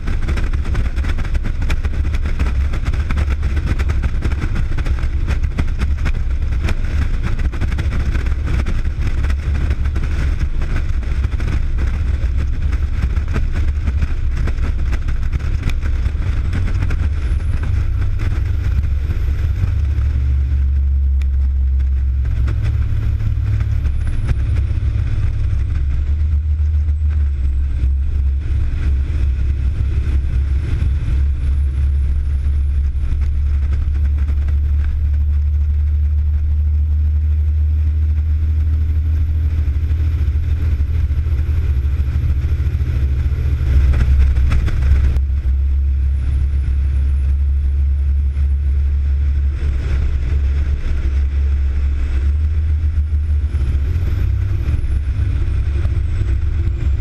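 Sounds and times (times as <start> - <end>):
diesel engine rumble: 0.0 - 57.0
road and wind noise: 0.0 - 57.0.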